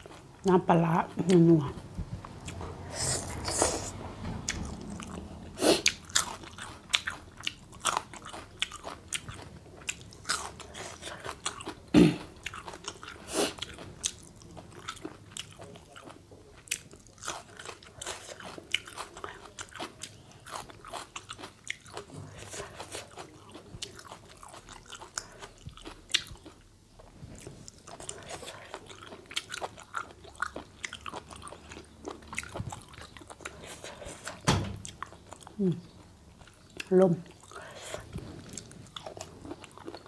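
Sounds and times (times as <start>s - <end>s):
person chewing and crunching: 4.5s - 40.0s.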